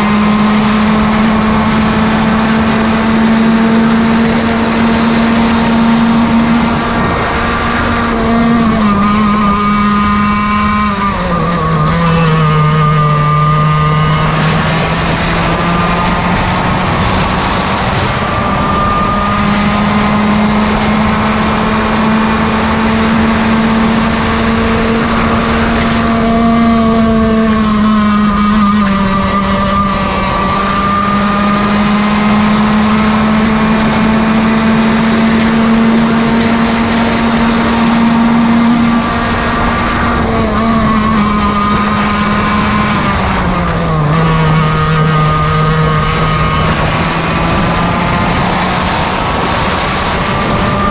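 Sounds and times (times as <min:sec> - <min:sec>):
kart engine at high revs: 0:00.0 - 0:50.9
kart engine passing: 0:00.0 - 0:50.9.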